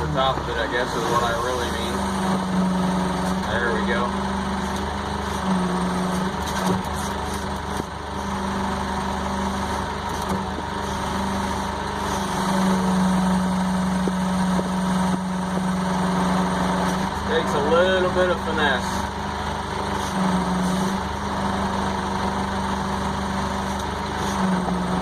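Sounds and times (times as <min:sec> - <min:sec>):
heavy machine engine running: 0:00.0 - 0:25.0.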